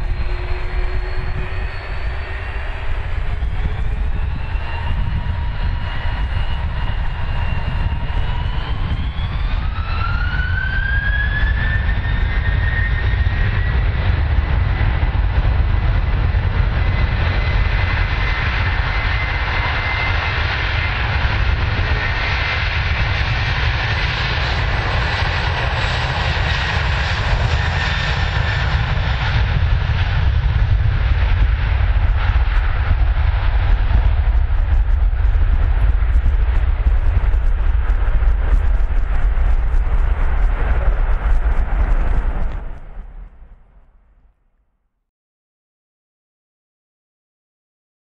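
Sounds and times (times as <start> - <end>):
deep jet engine rumble: 0.0 - 44.4
jet engine whine: 0.0 - 44.5.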